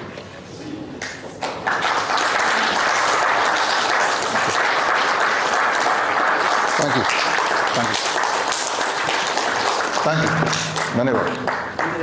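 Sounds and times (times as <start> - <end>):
audience applause: 1.4 - 12.0.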